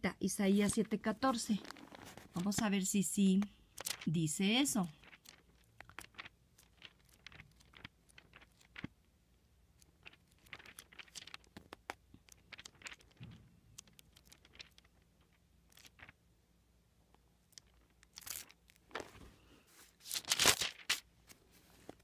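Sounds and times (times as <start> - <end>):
thin pages rustling: 0.6 - 2.8, 3.7 - 4.1, 4.8 - 9.0, 9.8 - 16.2, 17.5 - 22.0.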